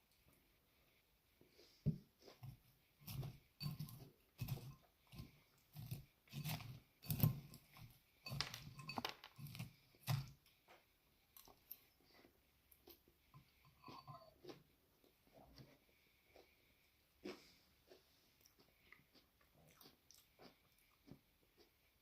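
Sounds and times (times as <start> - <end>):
person chewing crunchy salad: 1.7 - 10.6, 11.3 - 22.0.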